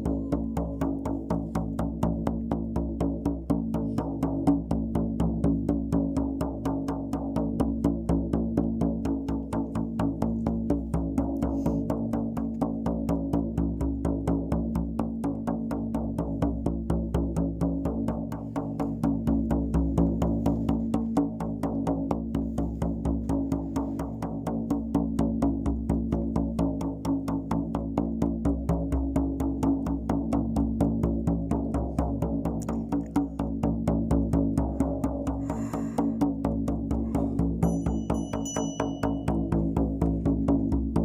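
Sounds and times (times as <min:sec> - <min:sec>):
frame drum beaten fast: 0:00.0 - 0:41.0.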